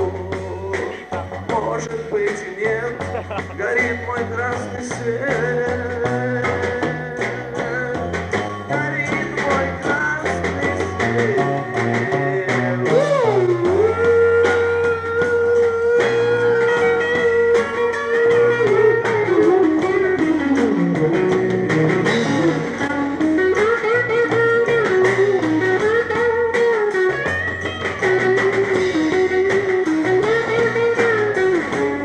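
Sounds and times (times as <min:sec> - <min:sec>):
lead guitar: 0:00.0 - 0:32.0
rock band playing: 0:00.0 - 0:32.0.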